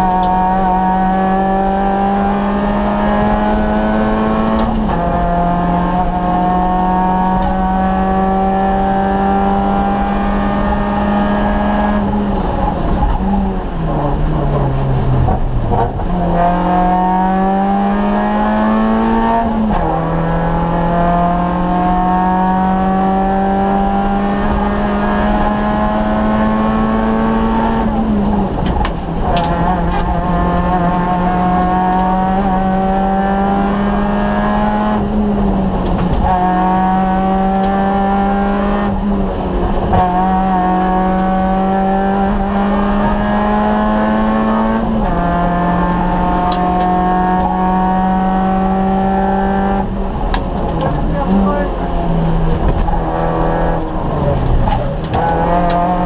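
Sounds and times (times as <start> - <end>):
car engine pulling hard: 0.0 - 56.0.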